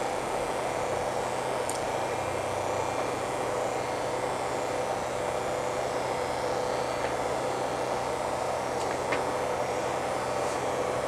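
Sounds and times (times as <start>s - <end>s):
model railway motor buzzing: 0.0s - 11.0s.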